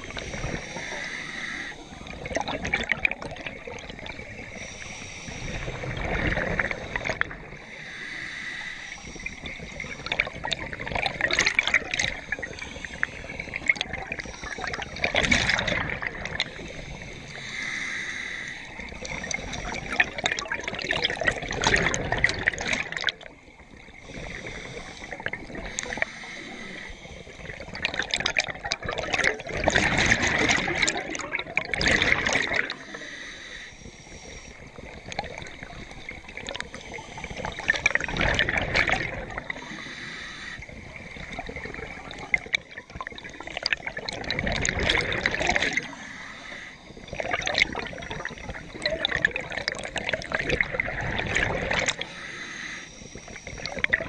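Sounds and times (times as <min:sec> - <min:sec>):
regulator bubbling underwater: 0:00.0 - 0:54.0.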